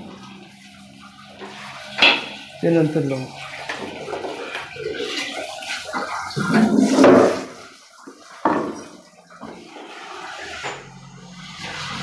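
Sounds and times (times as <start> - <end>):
water spraying: 0.0 - 12.0.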